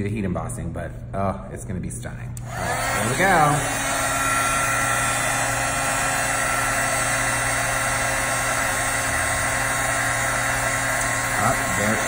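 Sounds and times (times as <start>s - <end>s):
heat gun fan humming: 2.3s - 12.0s.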